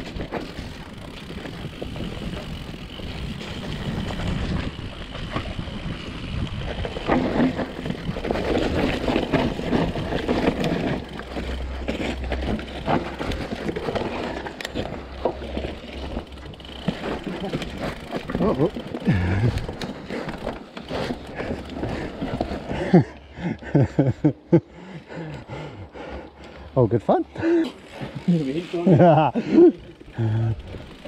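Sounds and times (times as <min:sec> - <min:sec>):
bike rattling over bumps: 0:00.0 - 0:24.3, 0:25.6 - 0:31.0
bike tyres on dirt: 0:00.0 - 0:31.0.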